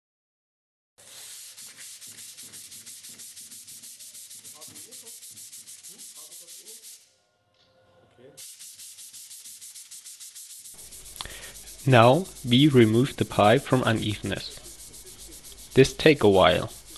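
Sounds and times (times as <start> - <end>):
sandpaper rubbing metal pipe: 1.0 - 7.1, 8.4 - 16.9.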